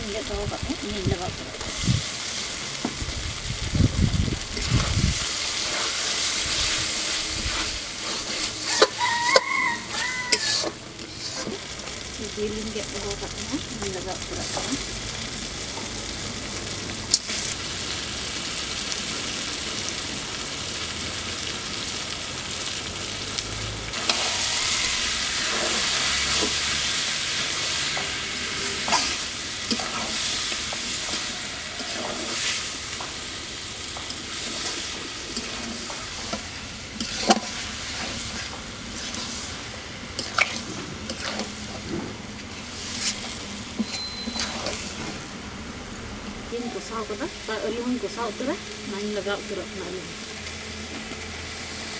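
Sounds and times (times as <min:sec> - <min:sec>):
food sizzling in oil: 0:00.0 - 0:51.9.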